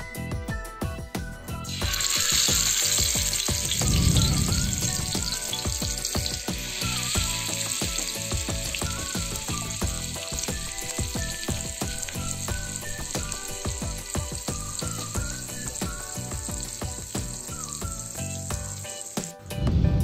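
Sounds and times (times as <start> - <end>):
fish sizzling in hot oil: 1.6 - 19.6.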